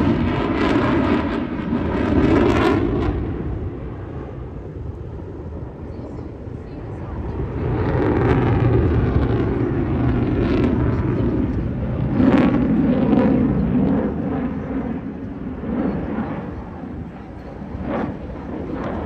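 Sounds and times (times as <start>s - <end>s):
jet aircraft flying past: 0.0s - 19.0s.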